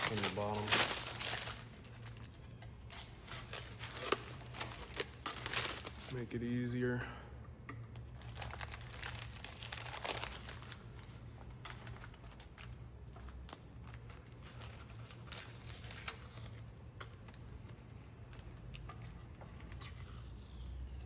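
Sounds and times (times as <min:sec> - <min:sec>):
tape peeling and crinkling: 0:00.0 - 0:06.8, 0:07.9 - 0:21.0.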